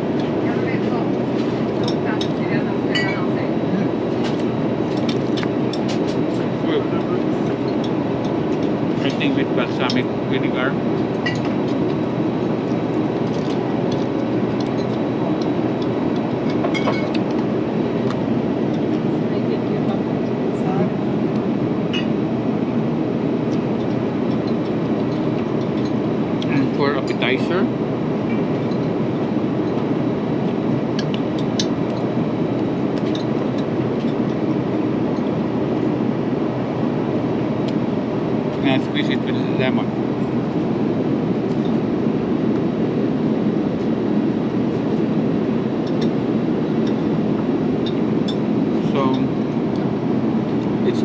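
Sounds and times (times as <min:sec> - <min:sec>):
airplane cabin engine noise: 0:00.0 - 0:51.0.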